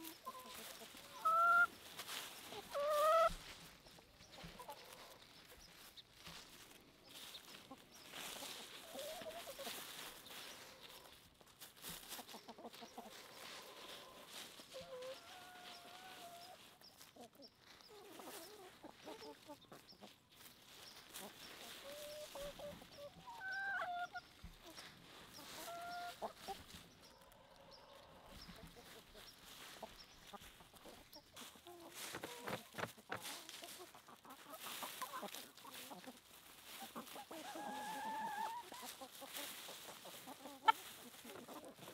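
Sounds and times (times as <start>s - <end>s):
chicken calls: 0.0s - 41.9s
chickens clucking: 0.0s - 41.9s.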